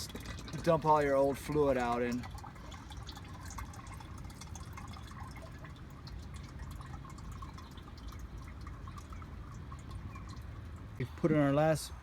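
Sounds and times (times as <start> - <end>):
oil pouring and dripping: 0.0 - 12.0.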